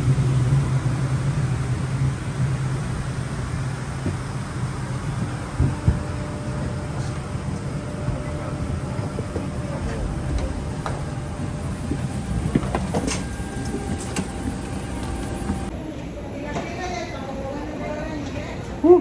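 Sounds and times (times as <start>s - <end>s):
airliner cabin hum: 0.0s - 19.0s
knocks and clicks of passengers walking: 1.8s - 18.8s.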